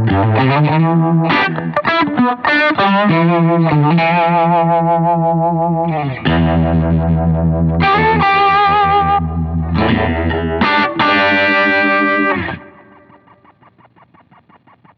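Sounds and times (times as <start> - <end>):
fuzz electric guitar wavering notes: 0.0 - 14.9.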